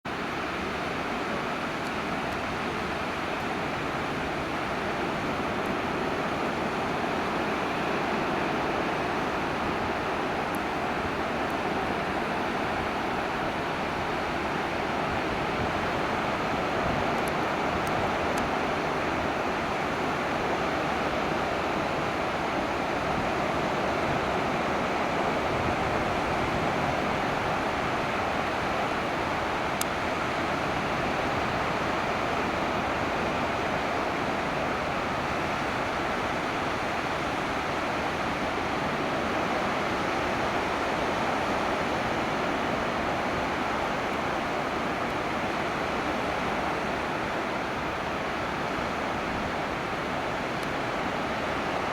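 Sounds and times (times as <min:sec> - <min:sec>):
ocean surf breaking: 0:00.1 - 0:51.9.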